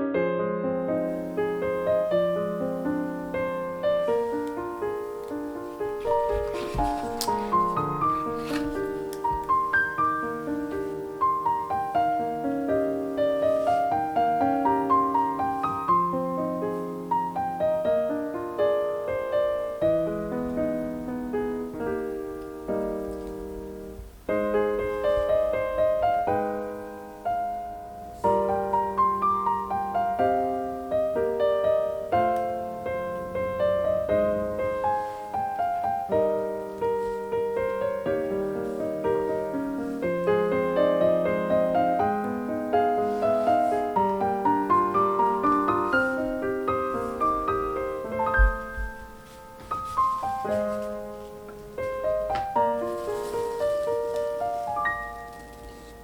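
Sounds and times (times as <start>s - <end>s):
gentle piano melody: 0.0s - 56.0s.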